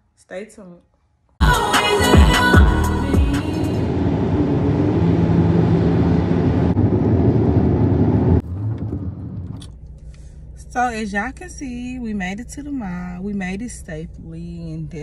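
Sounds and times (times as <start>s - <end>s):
car road and engine noise: 2.6s - 15.0s.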